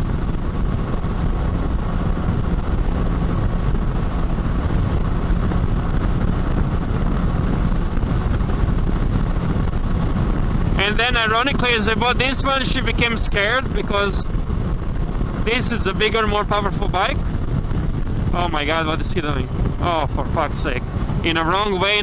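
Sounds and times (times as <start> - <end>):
motorcycle engine drone: 0.0 - 22.0
road rumble: 0.0 - 22.0
wind rush: 0.0 - 22.0.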